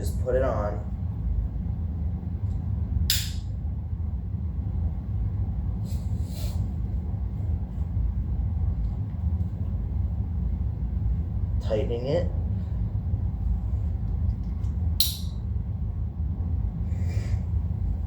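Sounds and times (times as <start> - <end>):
low handling rumble: 0.0 - 18.0.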